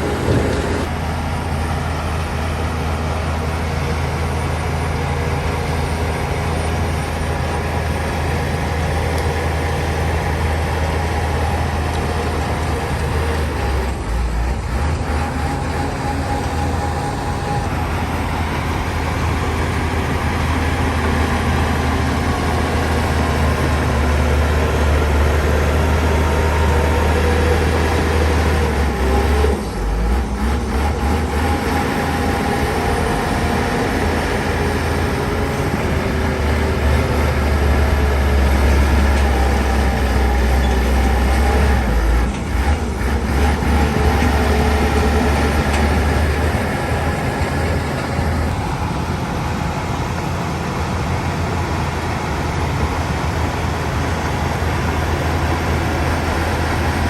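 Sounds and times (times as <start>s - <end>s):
bulldozer diesel engine: 0.0s - 57.0s.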